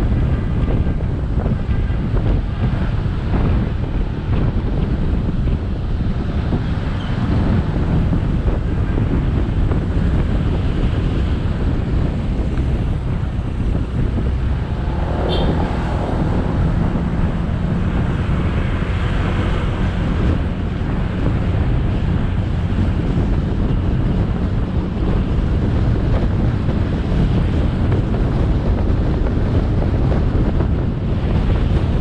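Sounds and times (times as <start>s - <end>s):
road noise: 0.0s - 32.0s
wind buffeting microphone: 0.0s - 32.0s
motorcycle engine: 0.1s - 25.9s.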